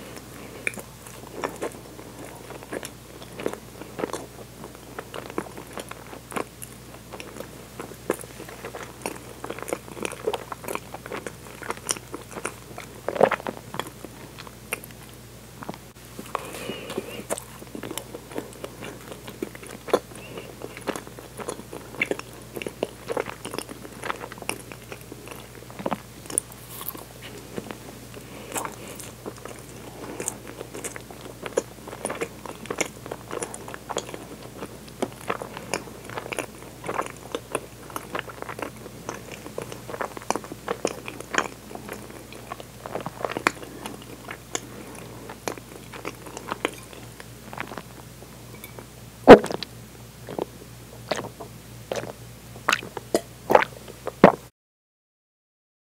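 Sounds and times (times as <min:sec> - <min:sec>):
person chewing: 0:00.0 - 0:54.4.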